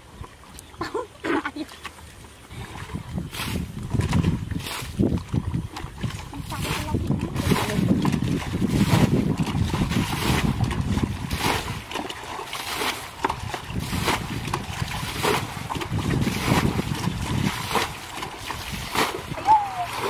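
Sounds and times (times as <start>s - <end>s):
bucket sloshing and splashing water: 0.0s - 20.0s.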